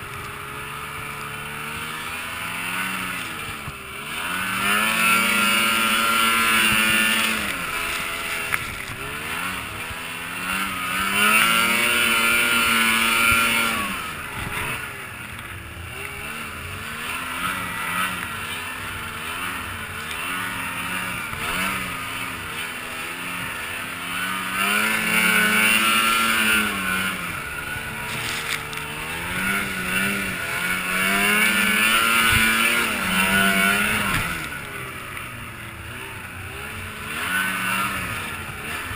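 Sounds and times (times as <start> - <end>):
snowmobile engine revving: 0.0 - 38.9.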